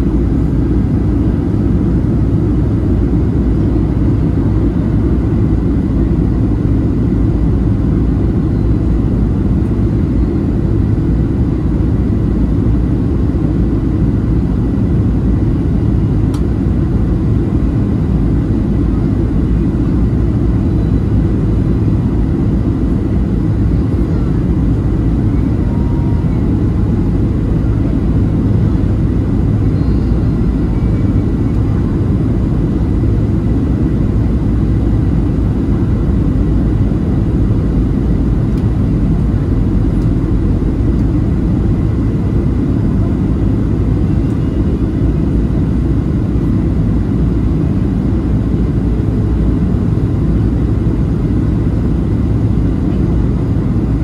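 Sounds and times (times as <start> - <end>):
airplane cabin rumble: 0.0 - 54.0
faint steady whine: 0.0 - 54.0.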